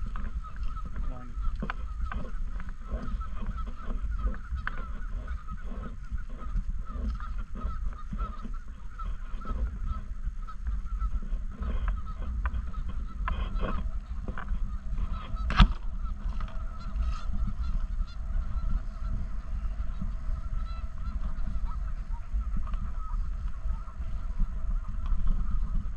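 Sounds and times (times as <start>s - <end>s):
geese honking: 0.0s - 25.9s
low rumble: 0.0s - 25.9s.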